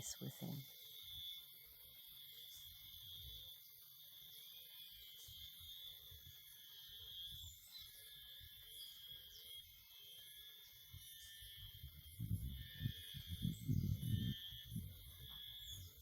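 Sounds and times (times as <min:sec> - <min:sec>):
faint high insect drone: 0:00.0 - 0:16.0.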